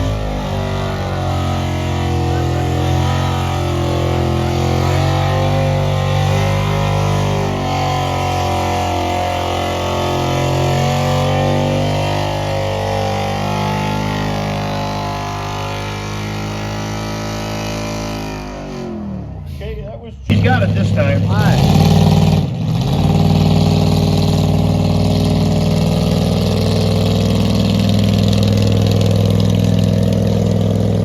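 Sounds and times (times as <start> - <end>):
vehicle engine running under load: 0.0 - 19.7, 20.3 - 31.0.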